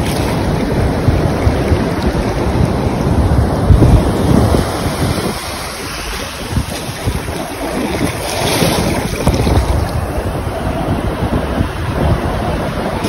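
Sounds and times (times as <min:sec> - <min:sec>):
surf washing over sand: 0:00.0 - 0:13.0
wind buffeting microphone: 0:00.0 - 0:13.0.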